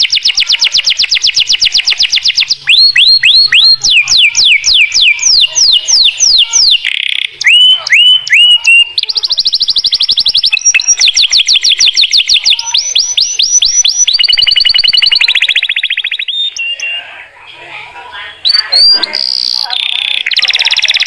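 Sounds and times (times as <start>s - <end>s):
canary singing: 0.0s - 21.0s.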